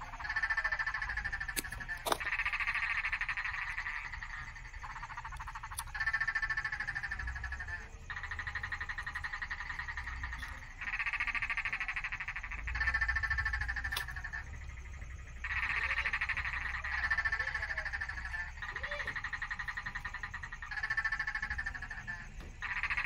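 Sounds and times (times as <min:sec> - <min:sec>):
frogs trilling: 0:00.0 - 0:23.0.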